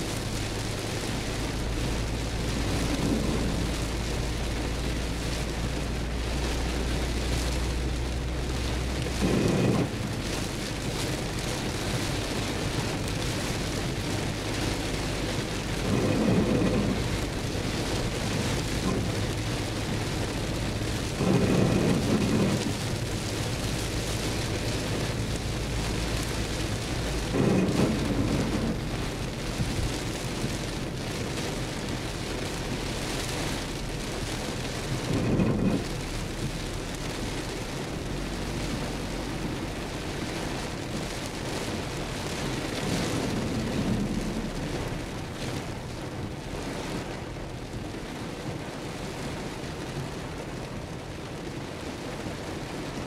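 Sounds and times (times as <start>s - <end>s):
heavy rain on car: 0.0s - 53.0s
tyres on wet road: 0.0s - 53.0s
windshield wipers swooshing: 0.0s - 53.0s.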